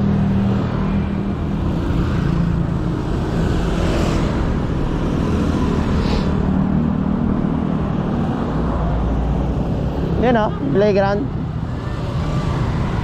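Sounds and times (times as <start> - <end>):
road traffic rumble: 0.0 - 13.0
vehicles passing close by: 0.0 - 13.0.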